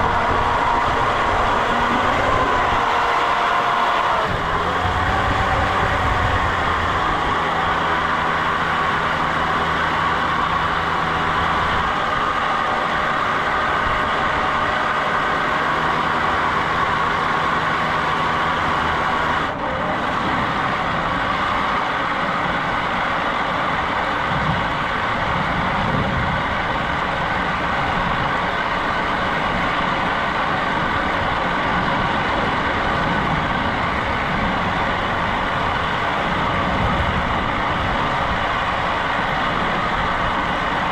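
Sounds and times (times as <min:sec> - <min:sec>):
engine running loudly: 0:00.0 - 0:40.9.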